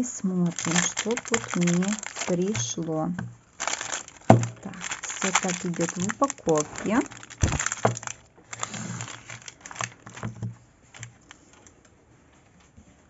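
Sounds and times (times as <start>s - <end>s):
plastic bags crinkling: 0.0s - 11.7s.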